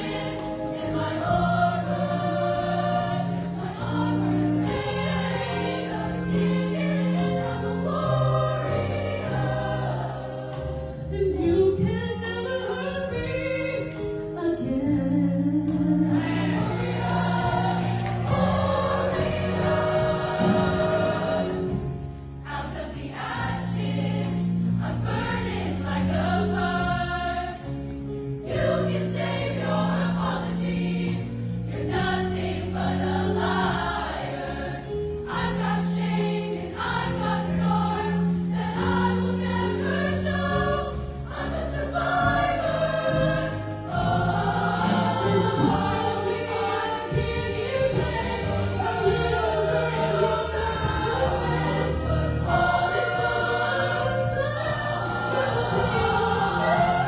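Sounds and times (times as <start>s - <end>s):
female choir singing: 0.0s - 15.0s, 15.6s - 57.0s.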